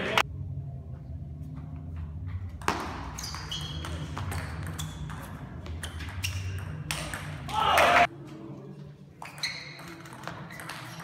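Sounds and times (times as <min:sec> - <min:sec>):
low hum of hall: 0:00.0 - 0:11.0.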